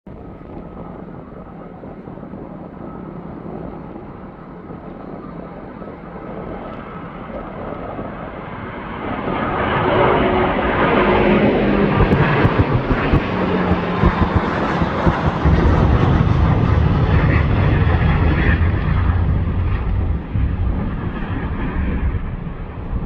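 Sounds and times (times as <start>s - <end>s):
jet engines roaring: 0.1s - 23.0s.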